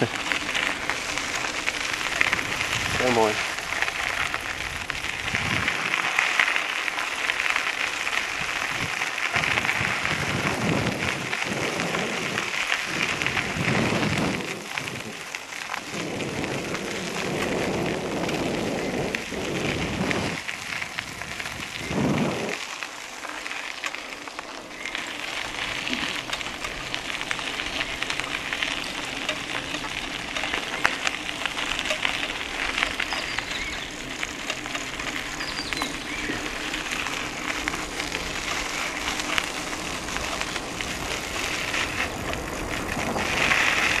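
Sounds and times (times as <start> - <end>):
wind rushing over microphone: 0.0 - 6.4, 8.0 - 22.7, 25.3 - 44.0
bicycle tyres hissing on grit: 0.0 - 44.0.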